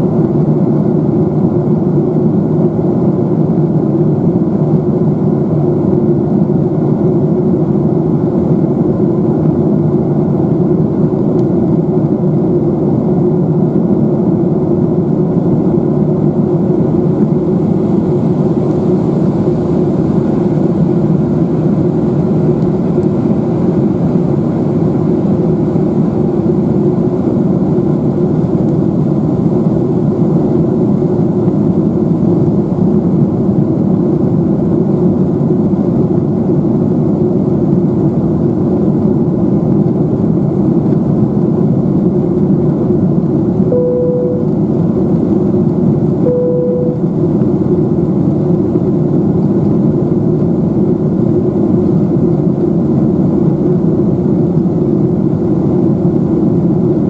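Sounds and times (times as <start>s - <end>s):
airplane engines droning: 0.0s - 57.0s
airflow over fuselage: 0.2s - 48.8s.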